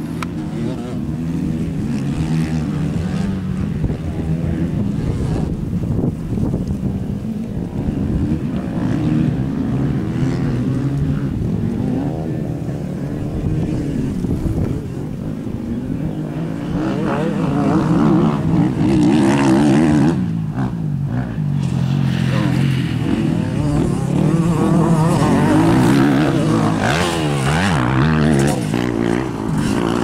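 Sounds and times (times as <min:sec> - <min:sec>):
wind noise: 0:00.0 - 0:20.8, 0:21.4 - 0:30.0
motocross bike engine revving: 0:00.0 - 0:30.0.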